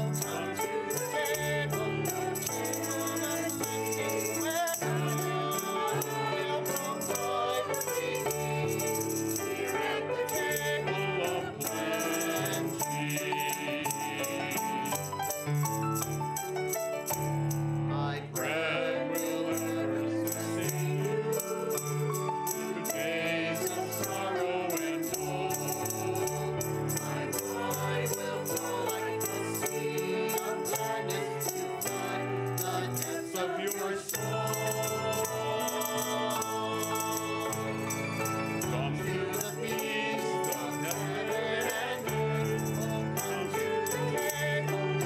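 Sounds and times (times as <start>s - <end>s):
choir and congregation singing: 0.0s - 15.7s, 17.8s - 45.0s
instrumental accompaniment: 0.0s - 45.0s.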